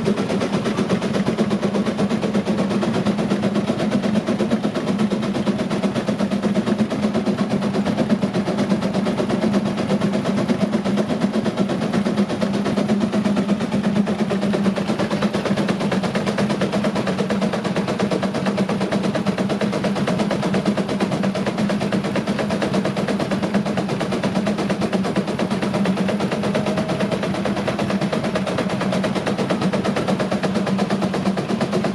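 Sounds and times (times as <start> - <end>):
steady hum: 0.0 - 31.9
steam engine exhaust beats: 0.0 - 31.9.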